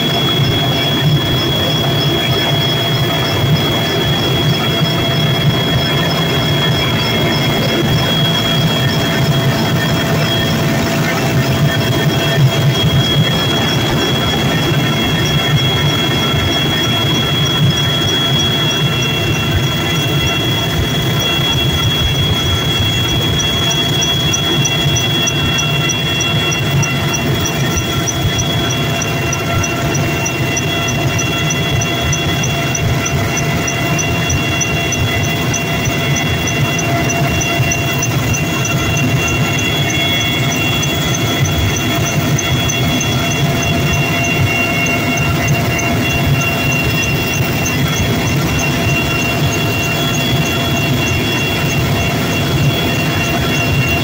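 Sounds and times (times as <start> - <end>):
fast even ticking: 0.0 - 54.0
helicopter engine and rotor: 0.0 - 54.0.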